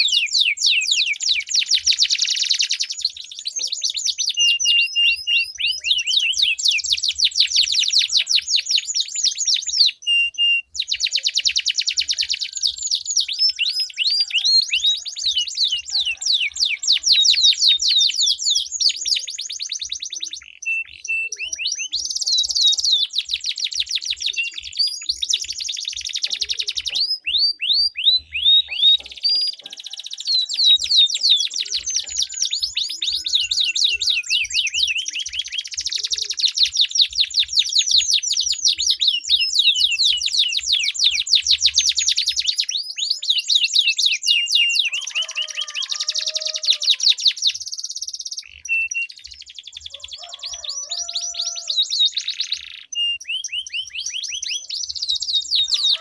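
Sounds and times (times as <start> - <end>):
canaries trilling: 0.0 - 56.0.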